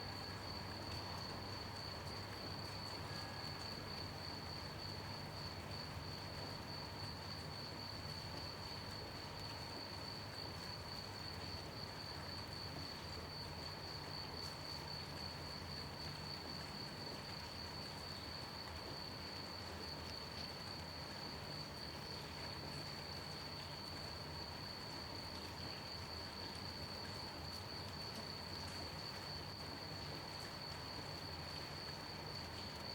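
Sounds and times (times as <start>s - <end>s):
crickets chirping: 0.0s - 32.9s
gentle rain hiss: 0.0s - 32.9s.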